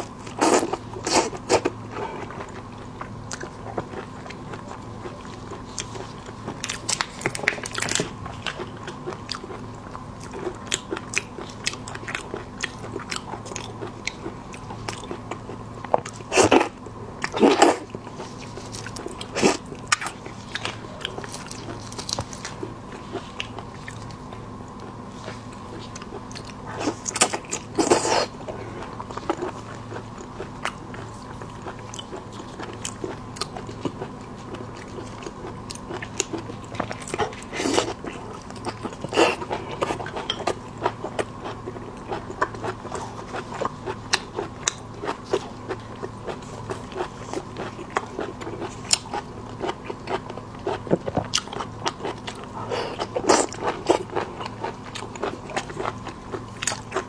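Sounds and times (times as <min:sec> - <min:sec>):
chewing shrimp shells: 0:00.0 - 0:57.0
faint steady hum: 0:00.0 - 0:57.0.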